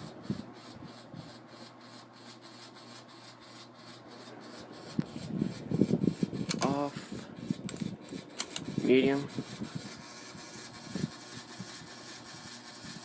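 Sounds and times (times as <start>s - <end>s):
ceiling fan humming: 0.0s - 13.0s
fan ticking: 0.0s - 13.0s
light kit vibrating: 0.0s - 13.0s.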